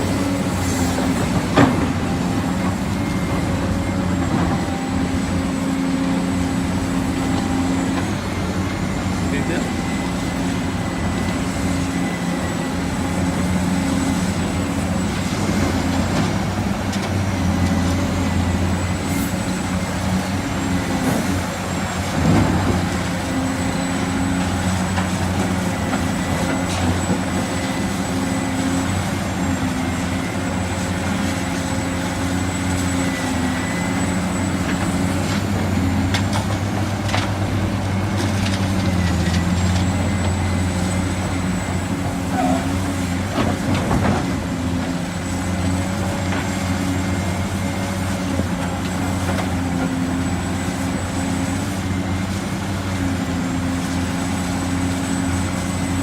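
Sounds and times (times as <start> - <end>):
diesel excavator engine running: 0.0 - 56.0.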